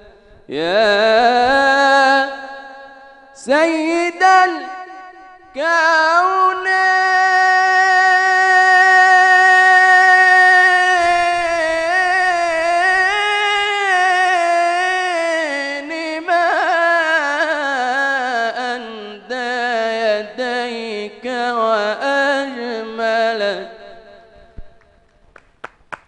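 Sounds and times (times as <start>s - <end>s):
man singing unaccompanied chant: 0.0s - 24.8s.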